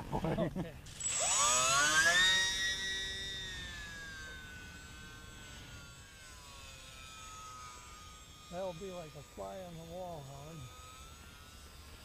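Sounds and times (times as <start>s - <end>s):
model airplane motor whining: 0.8s - 12.0s.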